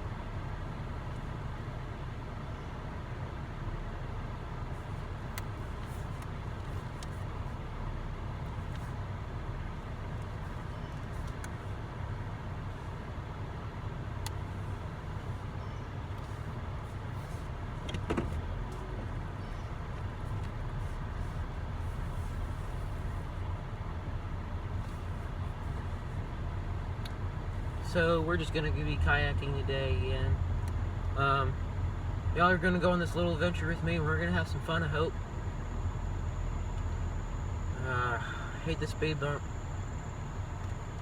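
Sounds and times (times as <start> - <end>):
vehicle rumbling: 0.0 - 41.0.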